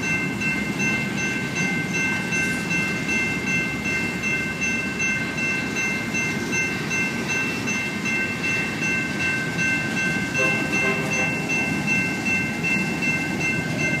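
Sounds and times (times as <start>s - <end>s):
crossing bells ringing: 0.0s - 14.0s
freight train wheels on rail: 0.0s - 14.0s.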